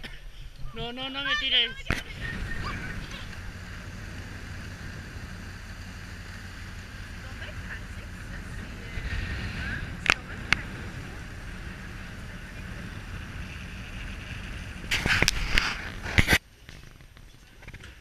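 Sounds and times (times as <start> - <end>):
wind rushing over microphone: 1.4 - 16.4.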